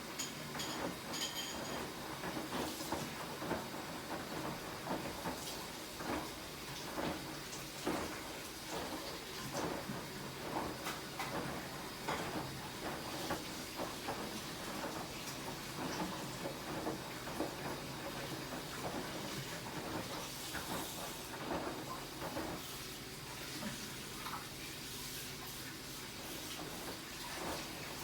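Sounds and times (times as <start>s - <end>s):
washing machine hiss: 0.0s - 28.0s.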